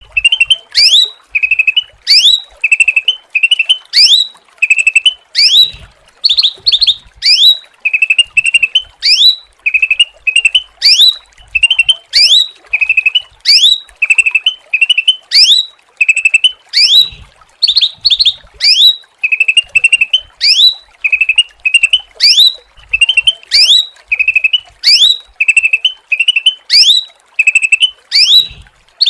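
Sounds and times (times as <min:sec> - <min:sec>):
songbird buzzy trill and whistle: 0:00.0 - 0:28.6.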